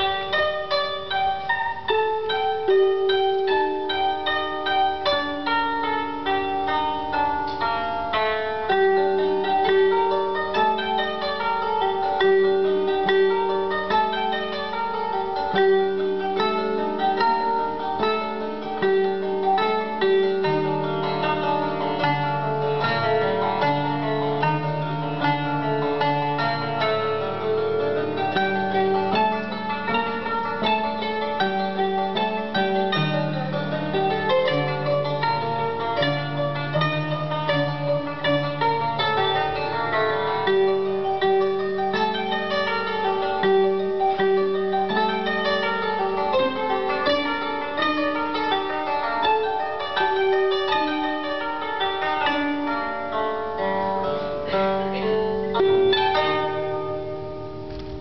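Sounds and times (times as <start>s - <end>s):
plucked zither music: 0.0s - 58.0s.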